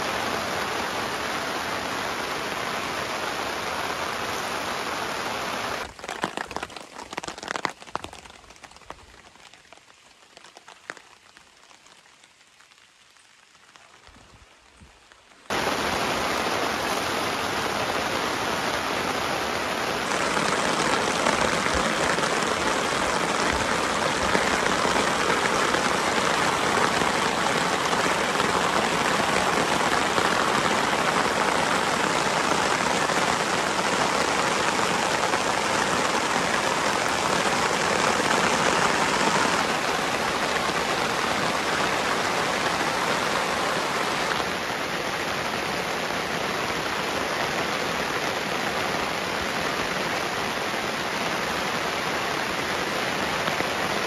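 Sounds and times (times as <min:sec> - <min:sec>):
heavy rain on a tarp: 0:00.0 - 0:54.0.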